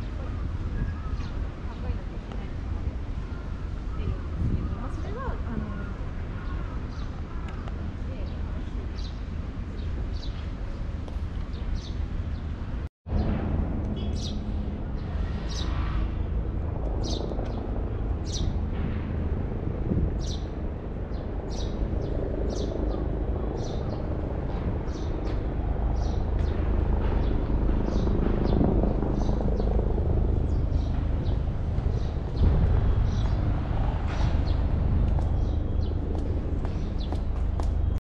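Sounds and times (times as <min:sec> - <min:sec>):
birds chirping: 0:00.0 - 0:12.7, 0:14.0 - 0:15.8, 0:17.0 - 0:18.6, 0:20.2 - 0:24.2, 0:24.9 - 0:38.0
city traffic rumble: 0:00.0 - 0:38.0.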